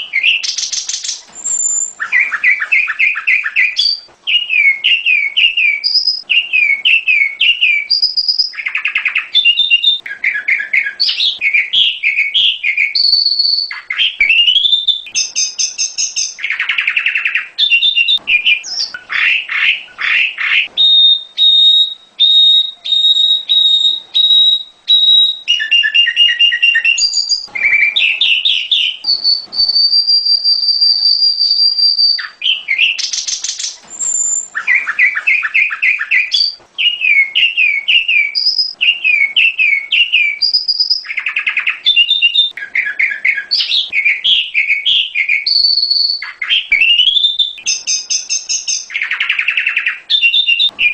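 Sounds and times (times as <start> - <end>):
bird chirps and trills: 0.0 - 50.9
long steady bird whistle: 0.0 - 50.9.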